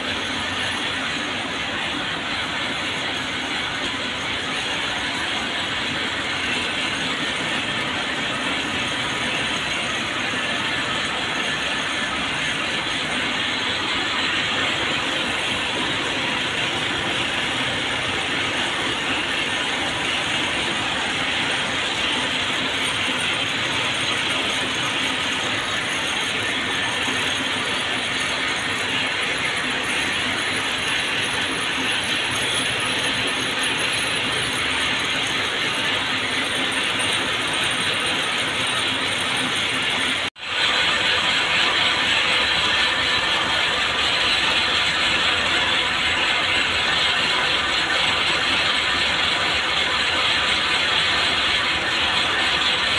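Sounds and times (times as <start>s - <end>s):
machines clattering: 0.0s - 52.9s.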